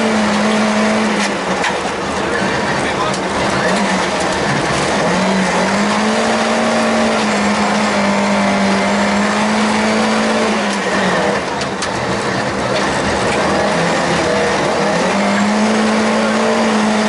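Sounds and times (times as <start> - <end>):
car engine at high revs: 0.0 - 17.0
road and tyre noise: 0.0 - 17.0.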